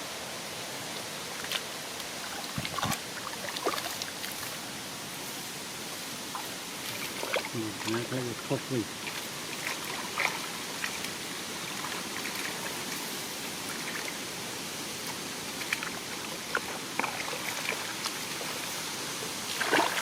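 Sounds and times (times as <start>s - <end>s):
water splashes: 0.9s - 20.0s
shallow water trickling: 1.3s - 20.0s.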